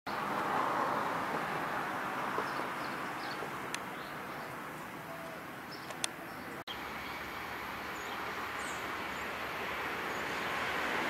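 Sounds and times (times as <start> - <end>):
outdoor background noise: 0.1 - 11.0.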